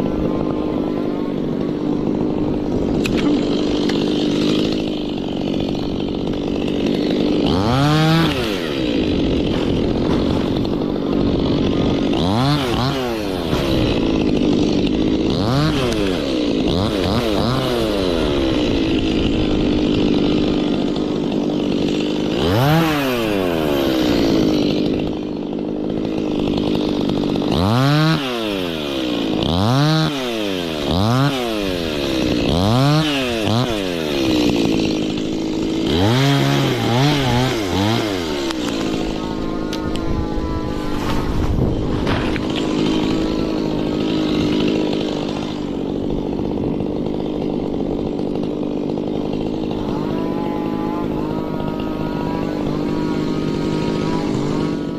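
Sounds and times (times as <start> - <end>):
chainsaw cutting a tree: 0.0 - 54.9.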